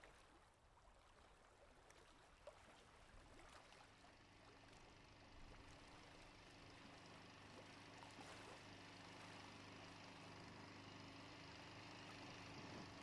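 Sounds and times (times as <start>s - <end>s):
quiet river ambience: 0.0s - 13.0s
faint engine hum: 0.1s - 13.0s.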